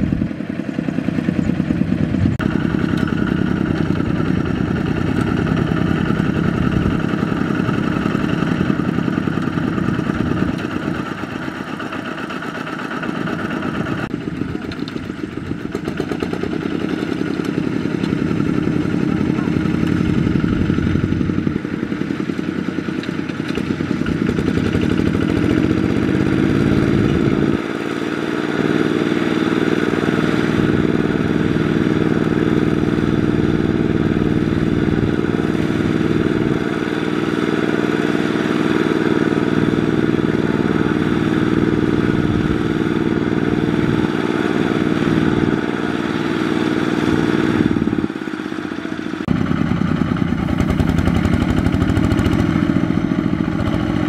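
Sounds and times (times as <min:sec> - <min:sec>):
diesel tractor engine straining: 0:00.0 - 0:54.0.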